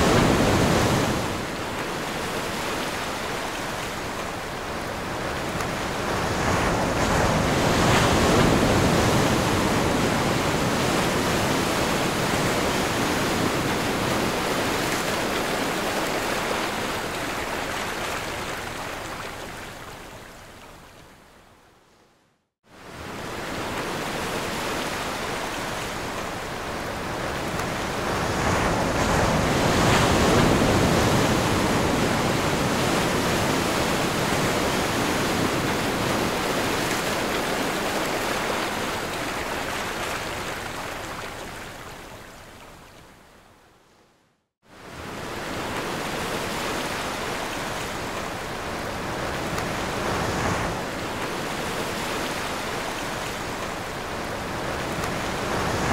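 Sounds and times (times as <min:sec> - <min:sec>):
ocean waves washing: 0:00.0 - 0:21.3, 0:22.6 - 0:43.2, 0:44.6 - 0:55.9.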